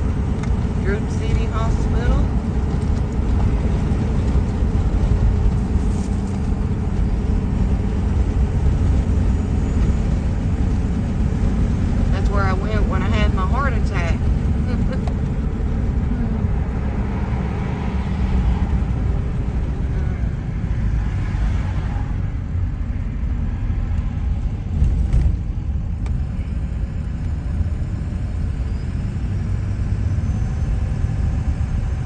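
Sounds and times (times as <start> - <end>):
road and engine rumble in car: 0.0 - 32.0.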